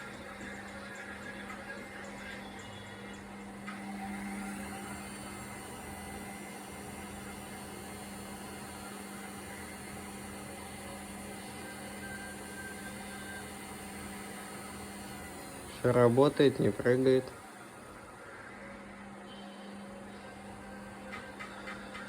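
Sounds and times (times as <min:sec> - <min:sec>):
washing machine spinning: 0:00.0 - 0:18.8, 0:19.9 - 0:22.0.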